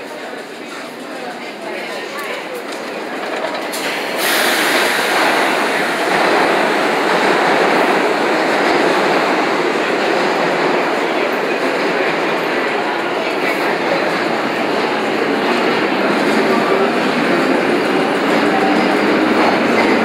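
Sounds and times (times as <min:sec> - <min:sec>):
subway train pulling out: 0:00.0 - 0:20.0.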